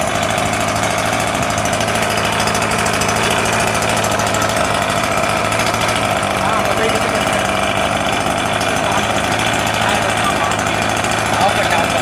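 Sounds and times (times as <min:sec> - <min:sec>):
small engine idling fast: 0:00.0 - 0:12.0.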